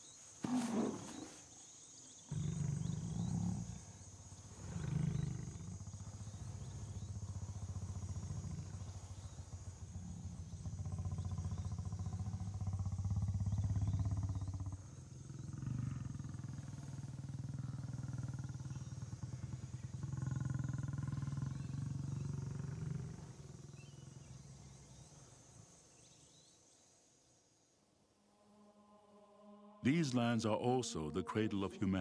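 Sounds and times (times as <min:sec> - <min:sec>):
lion rumbling: 0:00.4 - 0:26.4.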